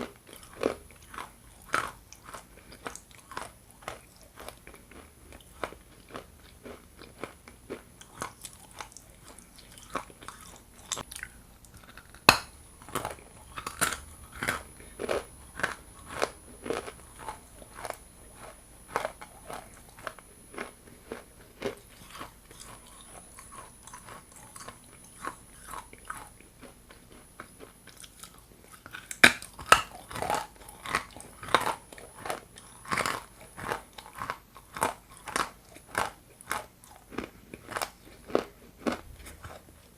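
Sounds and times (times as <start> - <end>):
hard clay being chewed: 0.0 - 39.9.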